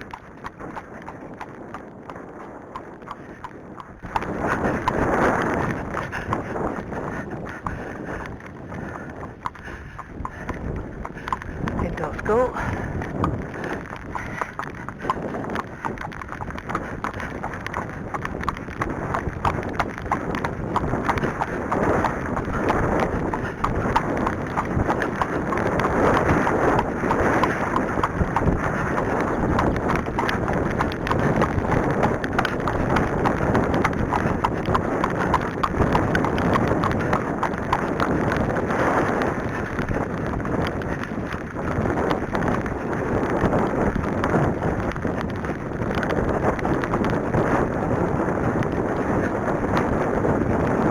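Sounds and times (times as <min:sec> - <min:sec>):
horse hooves striking ground: 0:00.0 - 0:50.9
wind noise on microphone: 0:00.0 - 0:50.9.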